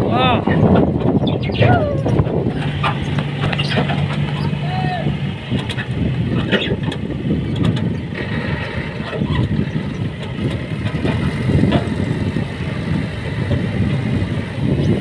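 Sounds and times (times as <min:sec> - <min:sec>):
diesel tractor engines straining: 0:00.0 - 0:15.0.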